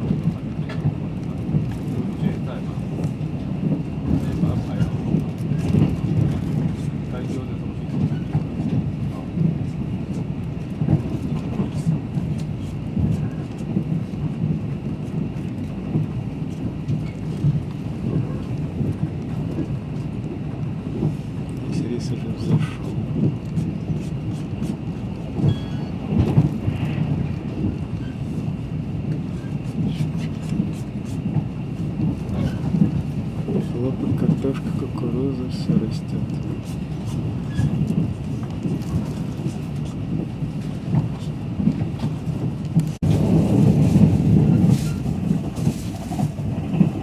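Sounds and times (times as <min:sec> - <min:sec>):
train knocks: 0:00.0 - 0:47.0
train rumbling on rails: 0:00.0 - 0:47.0.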